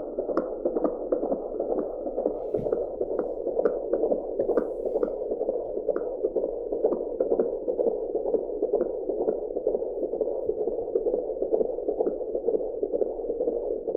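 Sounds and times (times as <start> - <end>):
fetal heartbeat on doppler: 0.0 - 13.9.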